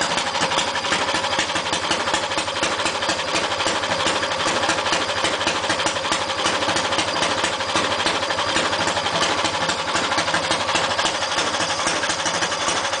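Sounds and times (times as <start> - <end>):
kart engine running steadily: 0.0 - 13.0.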